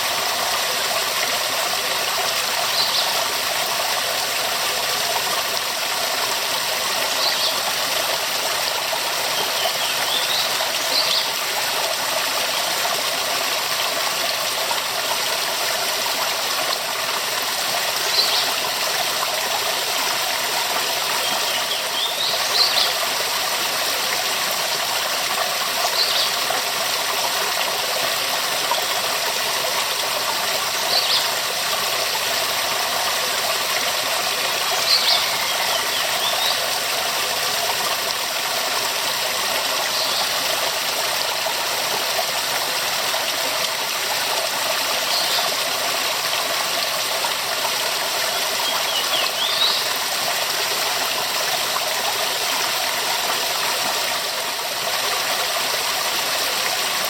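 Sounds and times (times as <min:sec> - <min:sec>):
waterfall rushing: 0:00.0 - 0:17.4, 0:27.8 - 0:57.0.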